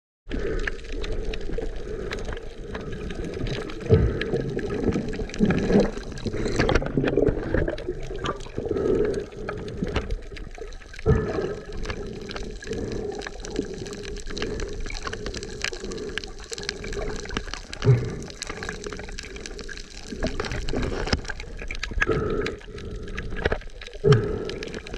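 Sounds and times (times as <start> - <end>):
muffled underwater bubbling: 0.3 - 24.9.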